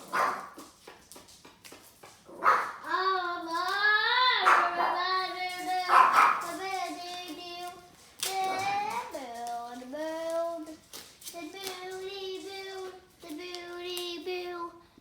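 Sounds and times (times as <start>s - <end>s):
child singing wordless tune: 2.8s - 15.0s.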